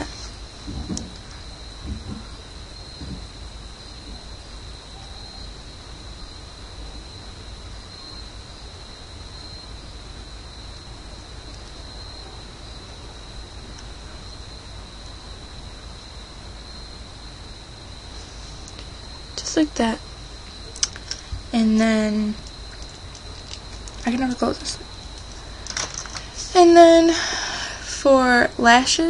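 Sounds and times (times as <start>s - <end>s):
background hiss: 0.0s - 29.0s.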